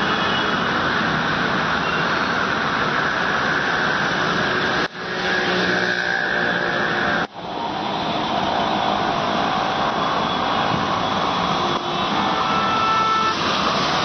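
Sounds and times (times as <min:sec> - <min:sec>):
heavy rain and rushing water: 0:00.0 - 0:05.8, 0:06.4 - 0:14.0.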